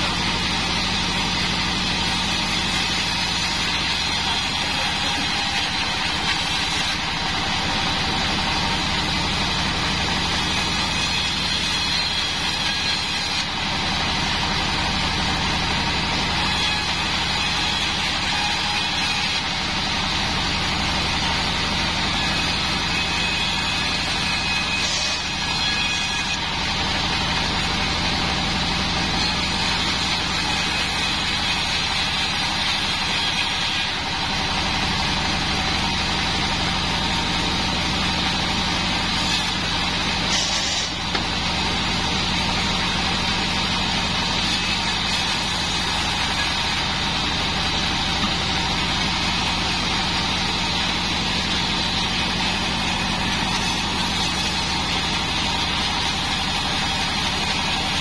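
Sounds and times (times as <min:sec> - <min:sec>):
bandsaw mill sawing wood: 0:00.0 - 0:58.0.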